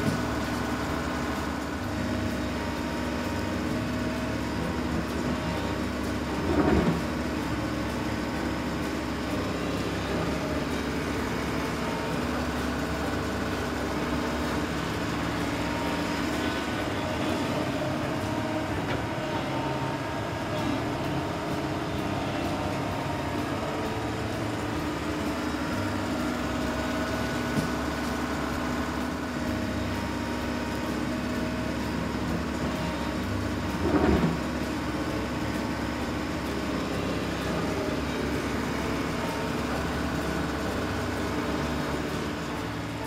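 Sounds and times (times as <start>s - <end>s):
heavy machinery engine running: 0.0s - 43.0s.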